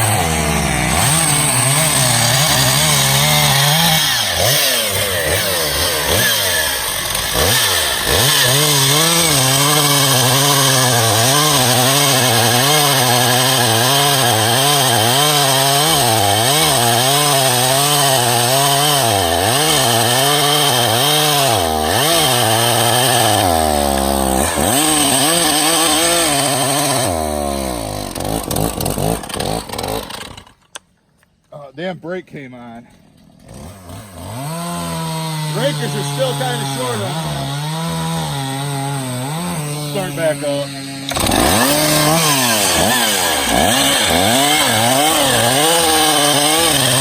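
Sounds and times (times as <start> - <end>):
chainsaw cutting wood: 0.0 - 31.0, 32.9 - 47.0.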